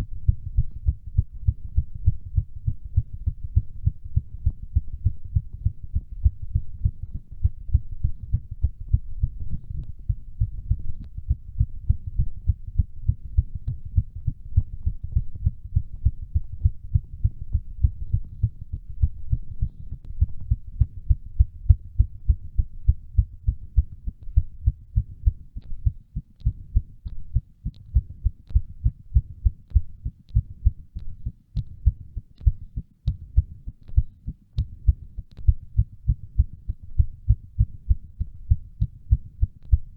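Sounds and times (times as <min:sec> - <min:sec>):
fast heartbeat thuds: 0:00.0 - 0:39.9.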